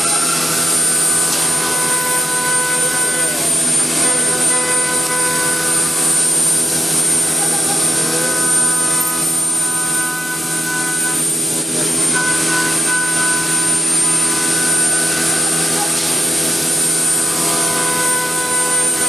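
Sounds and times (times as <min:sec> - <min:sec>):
woodworking machinery running: 0:00.0 - 0:19.0.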